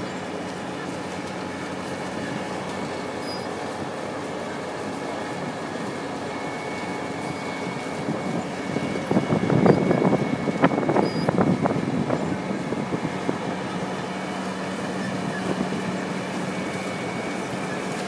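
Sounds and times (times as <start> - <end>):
milling machine planing asphalt: 0.0 - 18.0.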